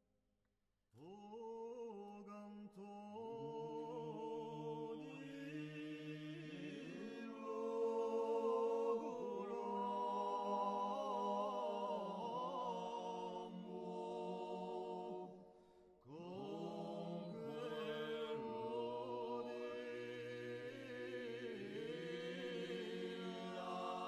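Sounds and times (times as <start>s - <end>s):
voices singing a slow chant: 1.0s - 24.0s.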